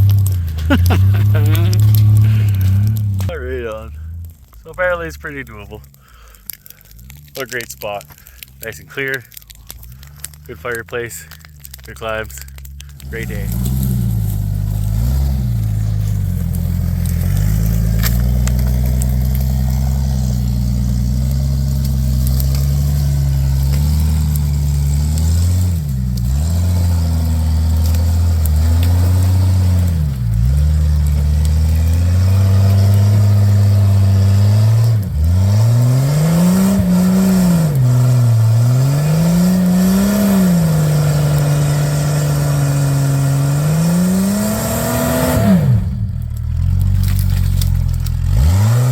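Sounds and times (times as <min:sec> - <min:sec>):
vehicle engine under load: 0:00.0 - 0:48.9.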